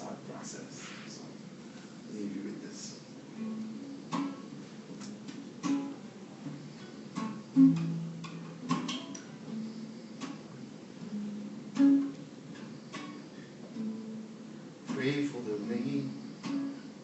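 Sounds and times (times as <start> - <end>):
acoustic guitar playing: 2.8 - 17.0.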